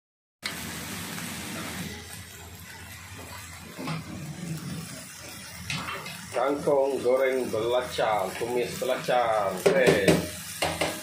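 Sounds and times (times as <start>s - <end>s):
vegetables sizzling in a wok: 0.4s - 11.0s.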